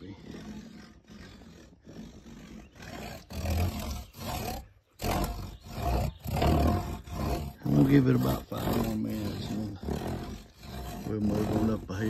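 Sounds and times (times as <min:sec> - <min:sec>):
tool rubbing across wooden stake: 0:00.0 - 0:12.0.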